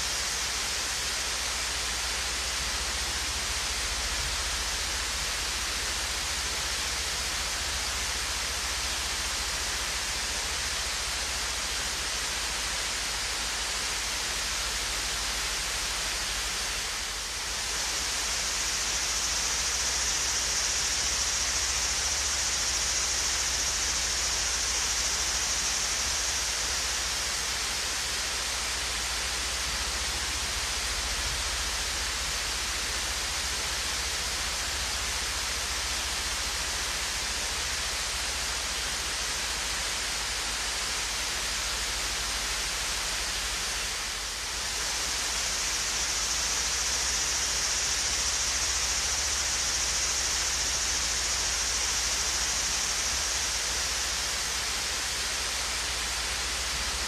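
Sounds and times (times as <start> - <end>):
small waterfall rushing: 0.0 - 57.0.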